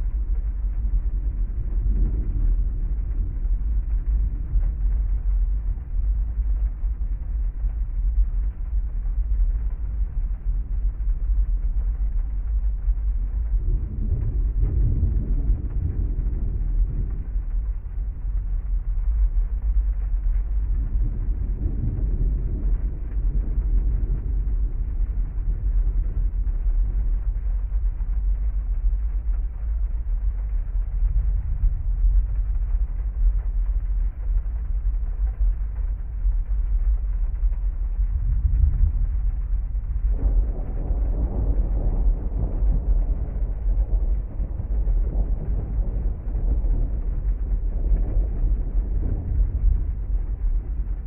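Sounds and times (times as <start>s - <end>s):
deep low rumble: 0.0s - 51.0s
heavy rain on a car: 0.0s - 51.0s.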